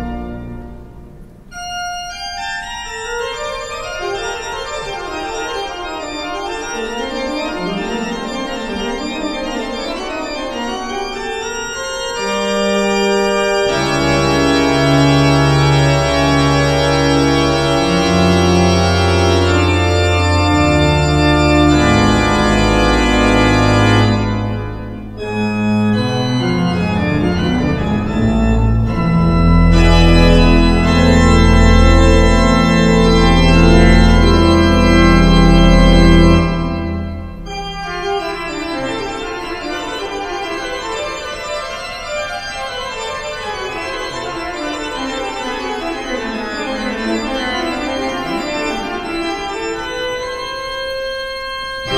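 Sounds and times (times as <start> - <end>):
pipe organ playing chords: 0.0 - 51.9.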